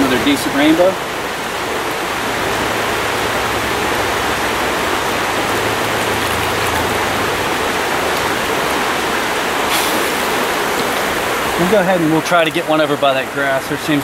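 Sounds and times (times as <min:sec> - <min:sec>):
stream water running over stones: 0:00.0 - 0:14.0.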